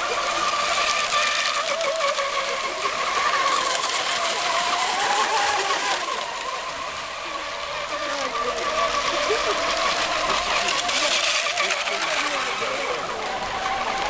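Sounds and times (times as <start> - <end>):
model boat motors whining: 0.0 - 14.0.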